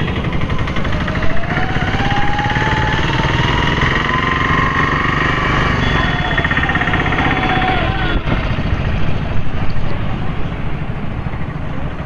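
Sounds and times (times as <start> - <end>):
vehicle engine whine rising: 0.0 - 9.9
road traffic: 0.0 - 12.0.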